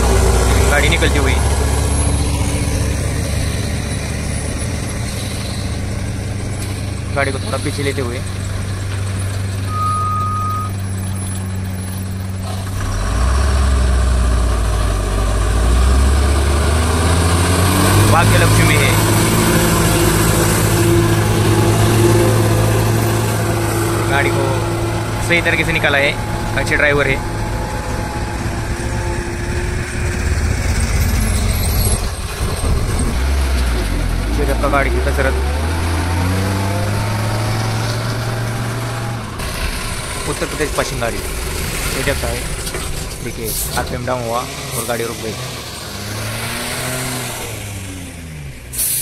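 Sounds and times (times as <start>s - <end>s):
truck diesel engine pulling: 0.0s - 49.0s.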